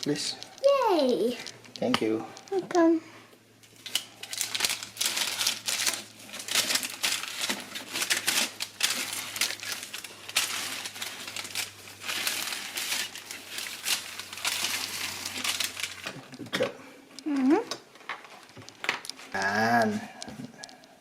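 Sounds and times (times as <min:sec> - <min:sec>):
crinkling and rustling: 0:00.0 - 0:21.0.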